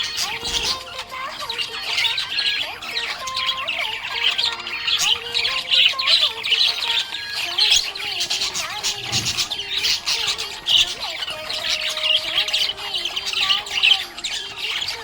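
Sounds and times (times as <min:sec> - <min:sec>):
budgerigar chirping and chattering: 0:00.0 - 0:15.0.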